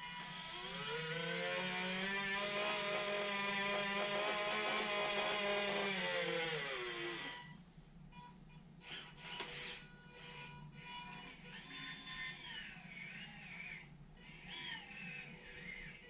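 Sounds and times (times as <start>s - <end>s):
small electric motors whining: 0.0s - 7.6s, 8.8s - 16.0s.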